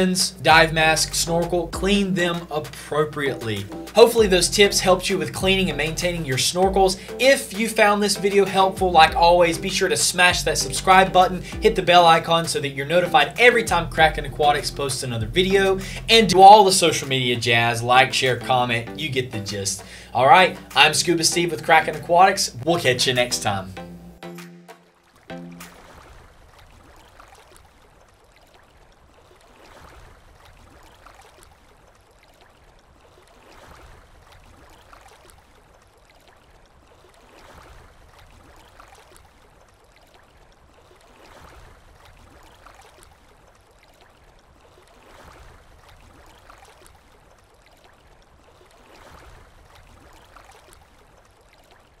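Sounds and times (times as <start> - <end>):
water washing like waves: 0.0 - 23.5, 24.4 - 52.0.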